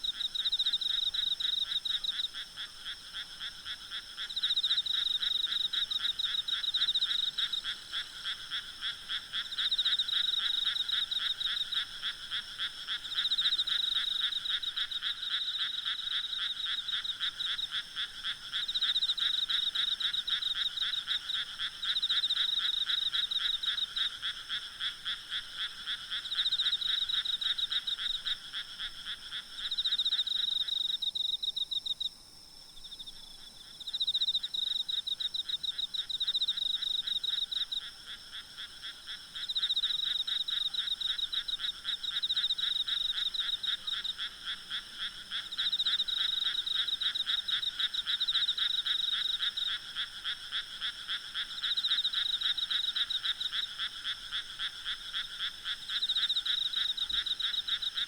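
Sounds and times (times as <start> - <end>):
frogs croaking in chorus: 0.0 - 58.0
insects trilling: 0.0 - 58.0.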